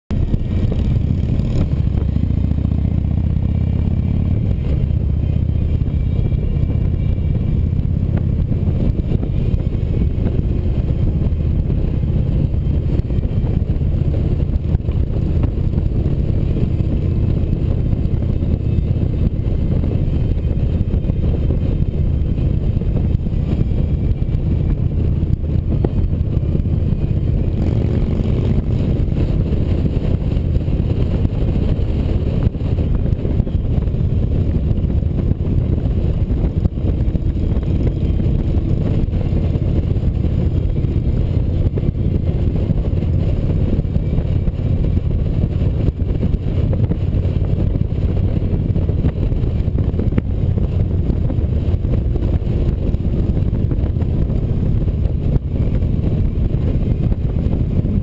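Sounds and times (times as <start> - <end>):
motorcycle engine running: 0.1 - 58.0
road noise: 0.1 - 58.0
wind noise: 0.1 - 58.0.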